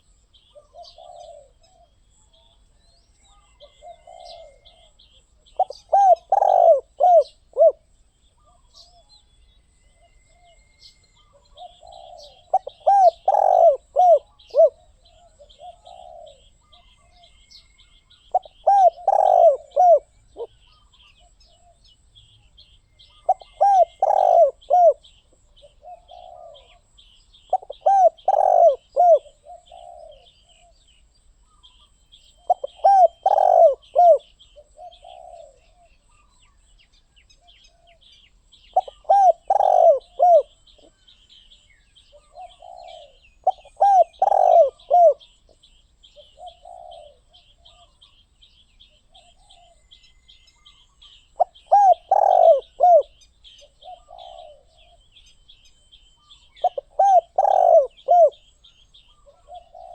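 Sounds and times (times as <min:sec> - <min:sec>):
dove cooing: 0:00.0 - 0:02.6, 0:03.2 - 0:09.2, 0:11.2 - 0:36.6, 0:37.4 - 0:48.2, 0:48.8 - 0:55.2, 0:56.2 - 0:59.9
small birds chirping: 0:00.0 - 0:59.9.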